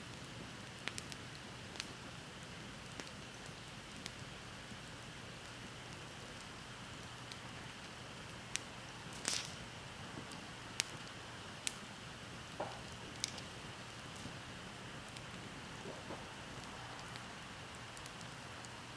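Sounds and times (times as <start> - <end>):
fire popping: 0.1 - 18.9
fire hissing: 0.7 - 18.9.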